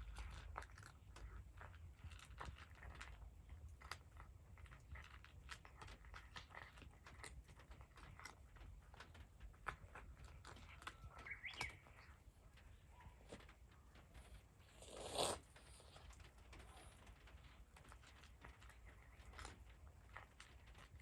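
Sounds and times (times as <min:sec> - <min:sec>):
cat chewing with crunching clicks: 0:00.0 - 0:21.0.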